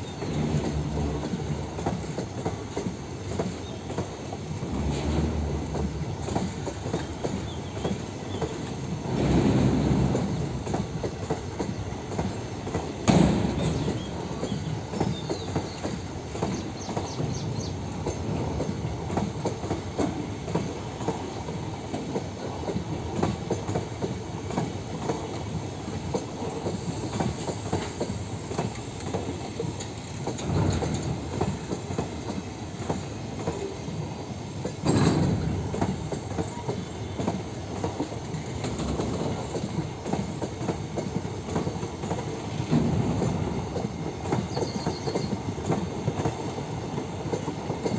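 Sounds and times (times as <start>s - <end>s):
train wagons clacking over rail joints: 0.0s - 47.9s.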